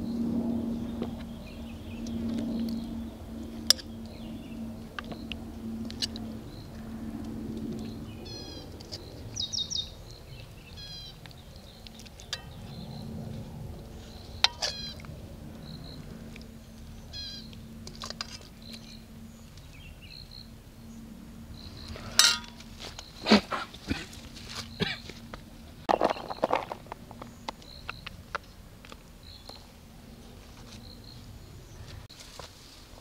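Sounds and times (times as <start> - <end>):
birds chirping: 0.0 - 32.1
faint steady hum: 0.0 - 33.0.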